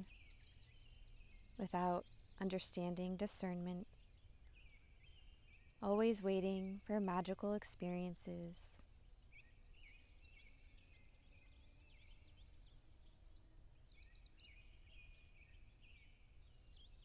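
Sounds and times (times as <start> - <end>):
low steady background rumble: 0.0 - 17.0
small birds chirping: 0.0 - 17.0.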